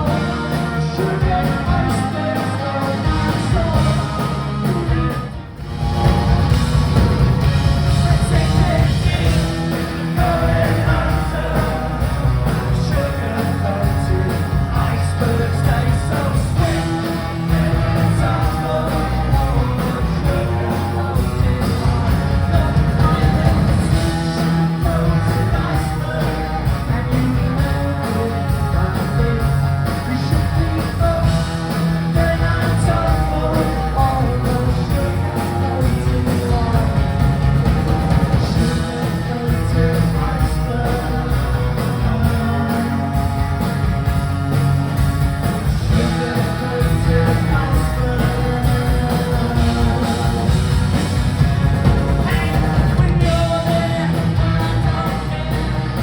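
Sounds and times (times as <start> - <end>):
person singing: 0.0 - 44.2, 45.5 - 56.0
live rock band playing: 0.0 - 56.0.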